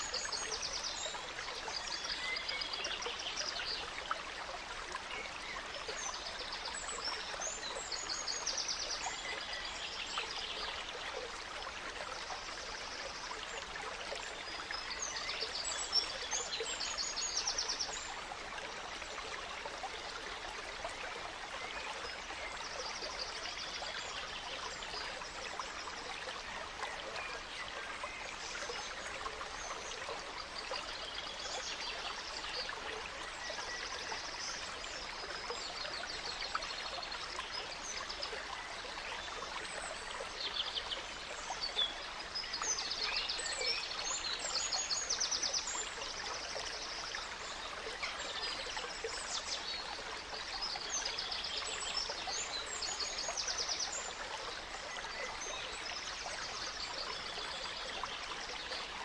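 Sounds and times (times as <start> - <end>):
gentle stream running: 0.0 - 59.0.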